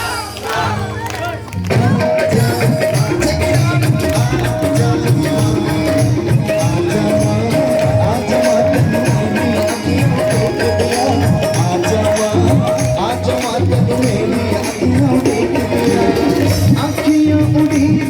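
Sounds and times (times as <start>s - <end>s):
rattle percussion: 0.0s - 18.0s
hand drum: 1.7s - 18.0s.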